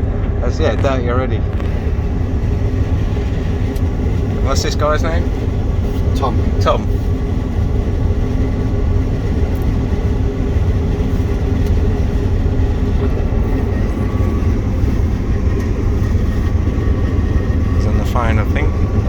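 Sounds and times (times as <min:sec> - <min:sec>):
combine harvester low drone: 0:00.0 - 0:19.0
faint steady whine: 0:00.0 - 0:19.0.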